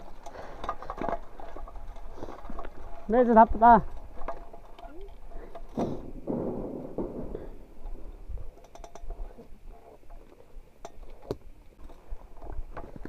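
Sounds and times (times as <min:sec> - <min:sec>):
bike clicks and knocks: 0:00.0 - 0:13.0.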